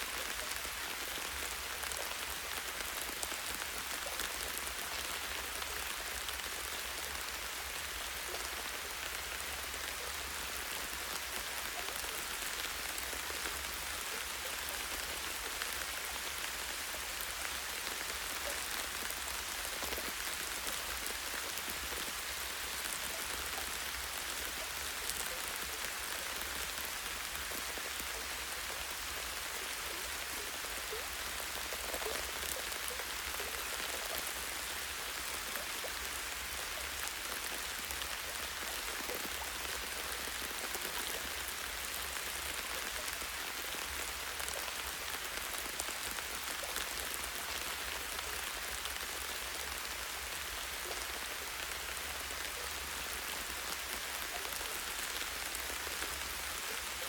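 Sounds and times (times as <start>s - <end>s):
light rain on leaves: 0.0s - 57.0s.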